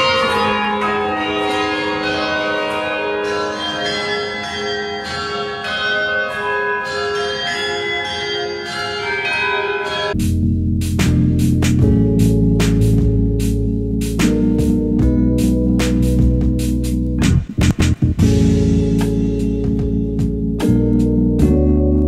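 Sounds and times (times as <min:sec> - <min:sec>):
church bells ringing: 0:00.0 - 0:17.2, 0:18.2 - 0:22.0
music: 0:00.0 - 0:22.0.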